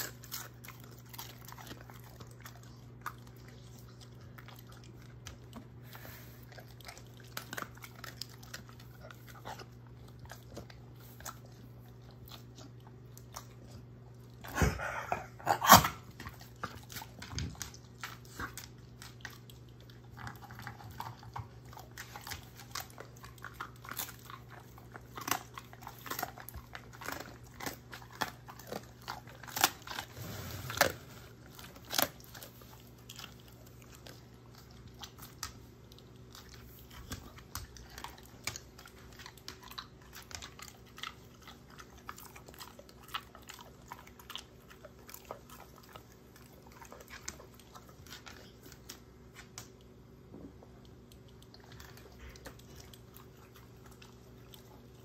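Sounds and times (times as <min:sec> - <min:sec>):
dog crunching hard treats: 0:00.0 - 0:55.0.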